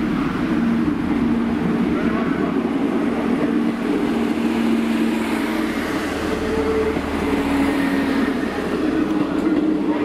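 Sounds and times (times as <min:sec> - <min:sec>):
diesel train passing: 0:00.0 - 0:10.0.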